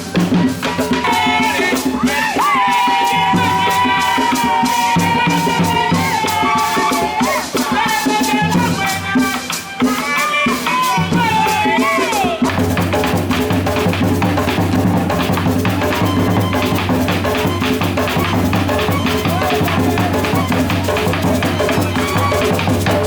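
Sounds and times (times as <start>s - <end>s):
fast shaker rhythm: 0.0s - 23.0s.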